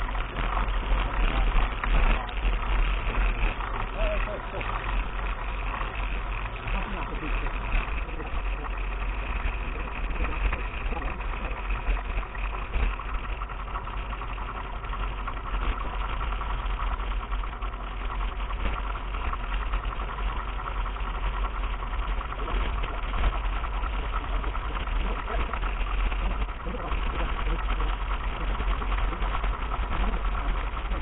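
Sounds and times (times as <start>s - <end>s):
bike rumbling and rattling on dirt: 0.0s - 31.0s.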